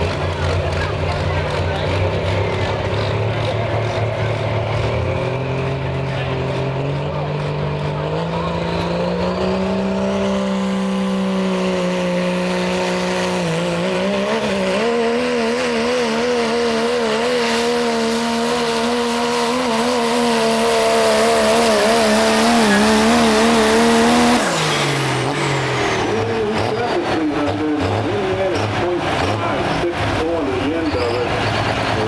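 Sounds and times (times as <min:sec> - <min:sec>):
diesel engine at high revs: 0:00.0 - 0:32.0.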